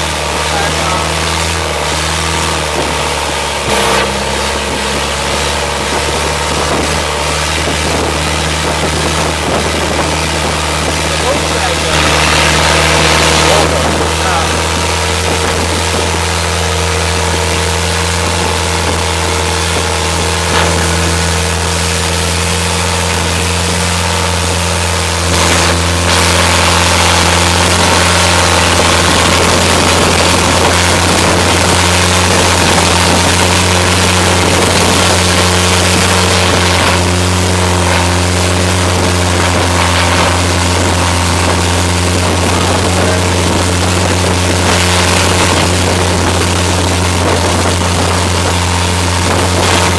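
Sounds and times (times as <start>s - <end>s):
motorboat engine running: 0.0s - 49.9s
wind and water rushing: 0.0s - 49.9s.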